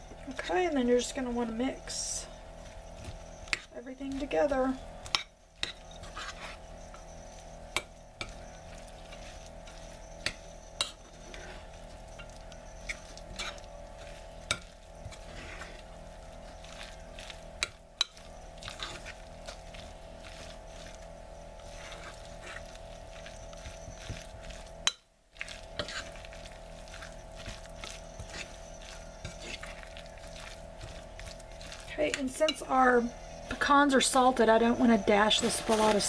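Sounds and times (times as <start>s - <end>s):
faint hum: 0.0s - 36.0s
spoon scraping wet food: 0.1s - 36.0s.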